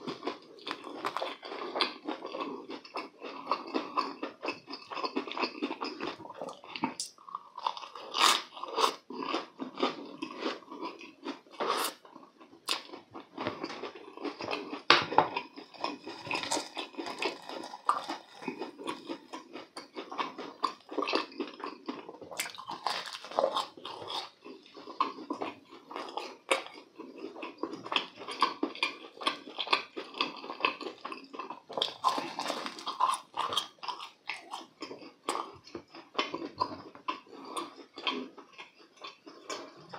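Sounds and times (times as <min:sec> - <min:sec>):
crunchy chewing of fried food: 0:00.0 - 0:39.9.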